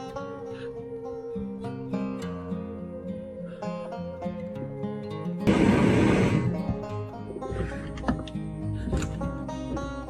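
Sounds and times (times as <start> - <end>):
plucked string instrument music: 0.0 - 10.0.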